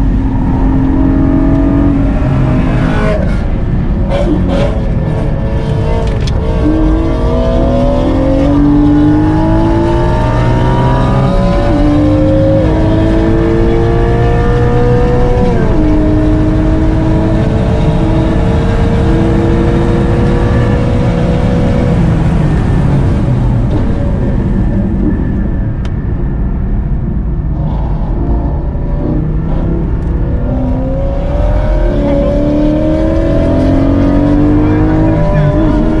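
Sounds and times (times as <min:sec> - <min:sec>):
car engine heard from cabin: 0:00.0 - 0:36.0.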